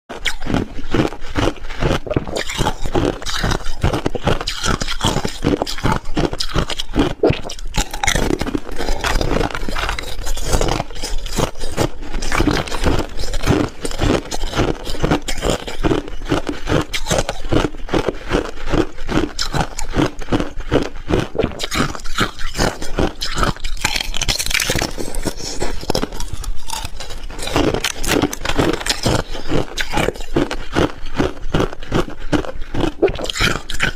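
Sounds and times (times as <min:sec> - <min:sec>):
person crunching ice: 0:00.1 - 0:33.9.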